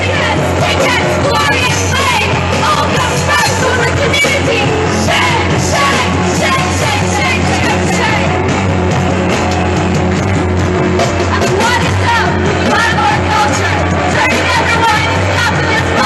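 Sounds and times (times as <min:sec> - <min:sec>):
woman singing and yelling: 0:00.0 - 0:08.3, 0:11.4 - 0:16.0
live band music: 0:00.0 - 0:16.0.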